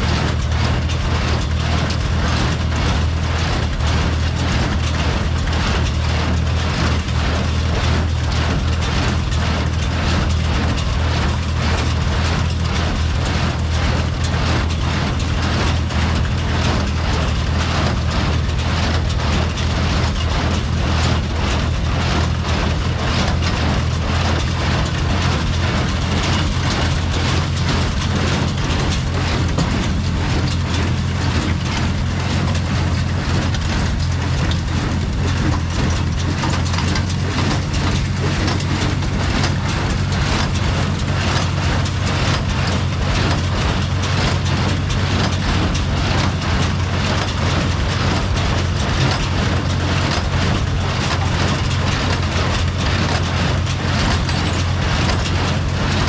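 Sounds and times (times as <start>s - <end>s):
tractor engine clattering: 0.0s - 56.0s.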